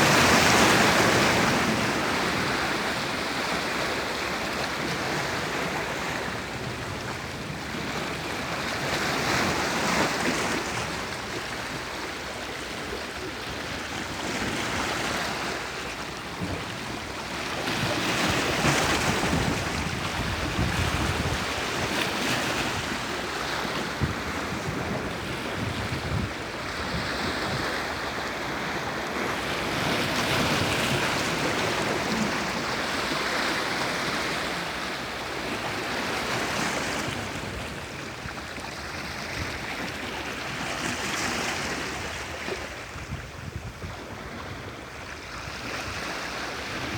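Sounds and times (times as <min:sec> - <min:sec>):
sea waves breaking: 0:00.0 - 0:46.9.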